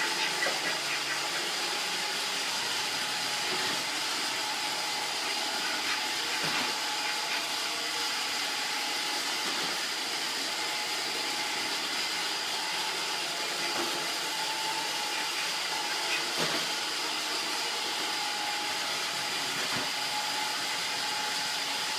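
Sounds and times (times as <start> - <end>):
robot vacuum whirring: 0.0 - 21.9.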